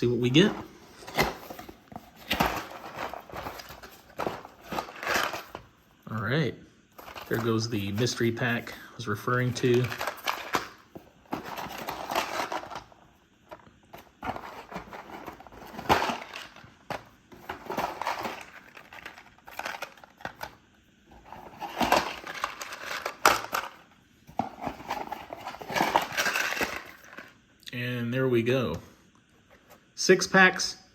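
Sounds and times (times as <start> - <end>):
plastic packaging rustling: 0.0 - 6.0, 7.0 - 27.4.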